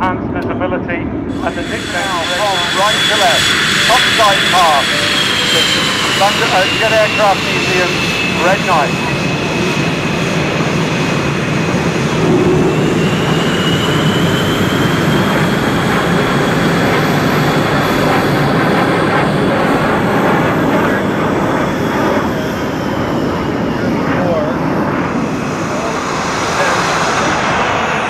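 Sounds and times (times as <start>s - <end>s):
jet aircraft rush with whine: 0.0s - 28.0s.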